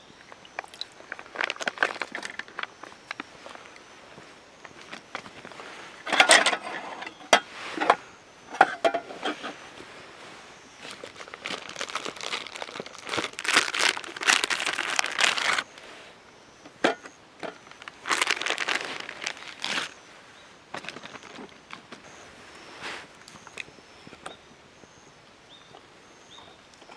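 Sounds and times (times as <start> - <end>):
crinkling and rustling: 0.6 - 16.0, 16.6 - 20.1, 20.7 - 24.4.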